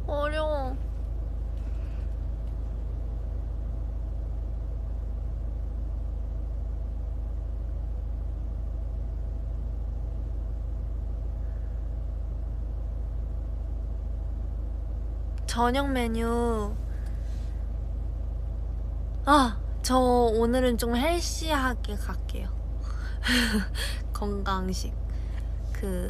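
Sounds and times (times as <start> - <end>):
car interior low rumble: 0.0 - 26.0
faint even hum: 0.0 - 26.0.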